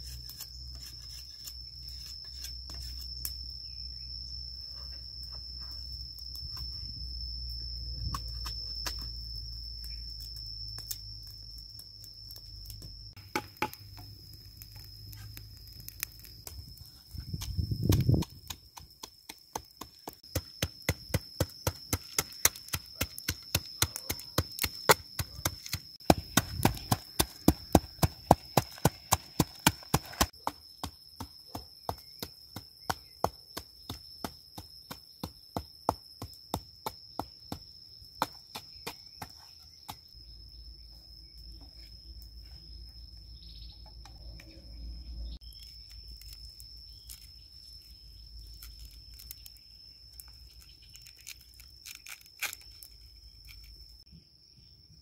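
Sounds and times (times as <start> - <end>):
insect droning: 0.0 - 55.0.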